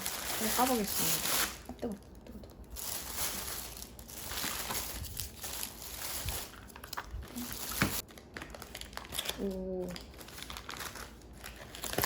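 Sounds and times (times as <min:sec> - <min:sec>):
wrapping rustling and crinkling: 0:00.0 - 0:12.0.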